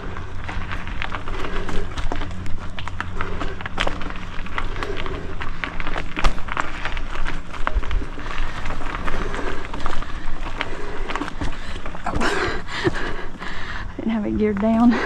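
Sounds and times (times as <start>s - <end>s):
bike rattling over roots: 0.0s - 15.0s
bike tyre noise on dirt: 0.0s - 15.0s.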